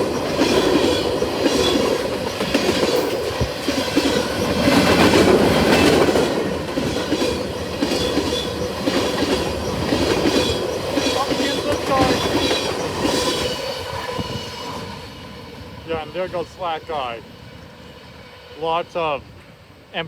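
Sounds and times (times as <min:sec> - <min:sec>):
train wheels clacking on rails: 0:00.0 - 0:16.4.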